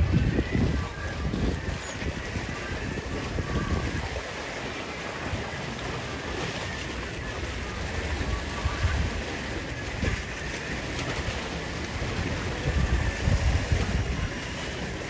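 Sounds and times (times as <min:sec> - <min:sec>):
wind buffeting microphone: 0:00.0 - 0:05.6, 0:06.4 - 0:15.0
sea water washing: 0:00.0 - 0:15.0.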